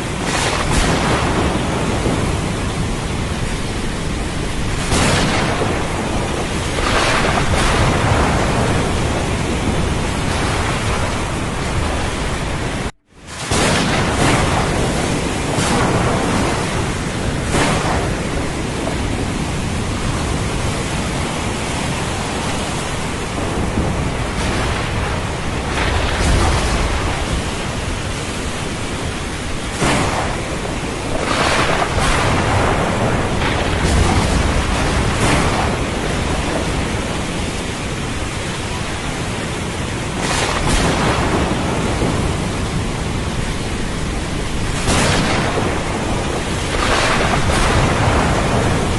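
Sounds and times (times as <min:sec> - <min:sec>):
heavy rain: 0:00.0 - 0:48.9
rolling thunder rumbles: 0:00.0 - 0:48.9
thunder cracks: 0:00.0 - 0:48.9.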